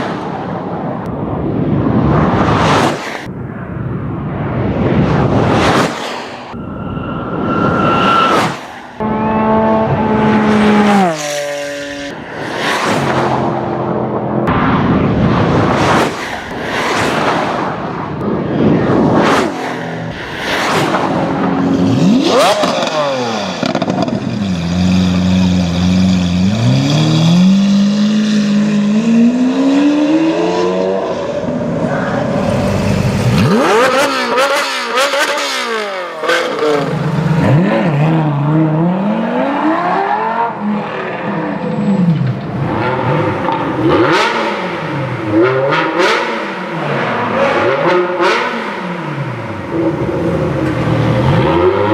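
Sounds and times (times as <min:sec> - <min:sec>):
supercar engines revving: 0:05.1 - 0:51.9.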